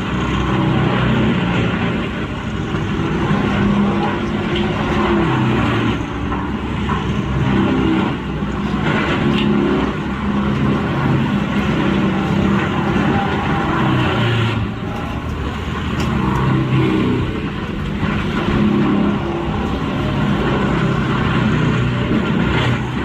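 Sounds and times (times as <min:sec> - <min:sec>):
diesel engine under load: 0:00.0 - 0:23.0
wood grinding and cracking: 0:00.0 - 0:23.0.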